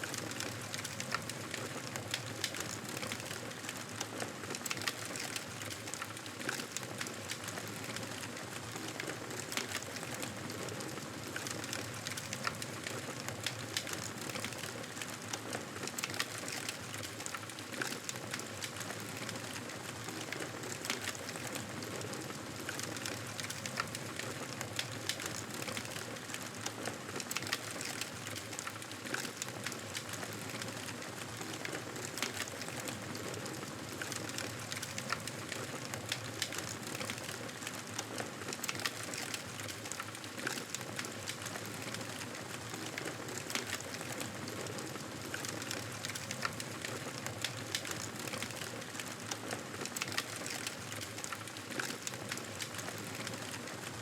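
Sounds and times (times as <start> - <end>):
fire popping and snapping: 0.1 - 53.8.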